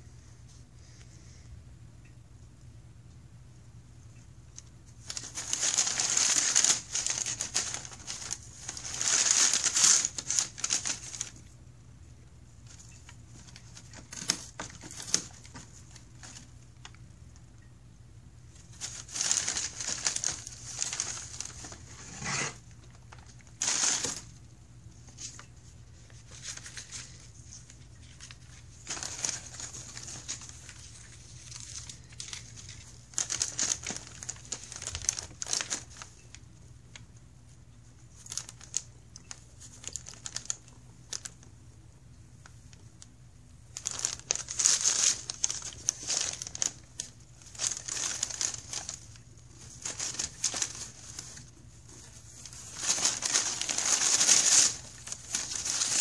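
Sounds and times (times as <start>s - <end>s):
packing paper crinkling: 4.5s - 11.6s, 12.5s - 17.0s, 18.5s - 37.2s, 37.8s - 41.6s, 42.4s - 56.0s.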